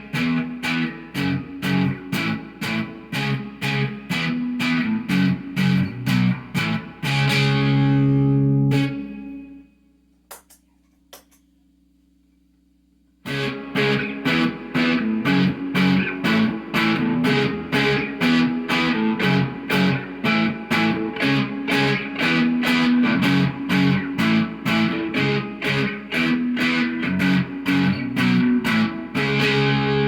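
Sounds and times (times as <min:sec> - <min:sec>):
electric guitar chords: 0:00.0 - 0:09.7, 0:13.2 - 0:30.0.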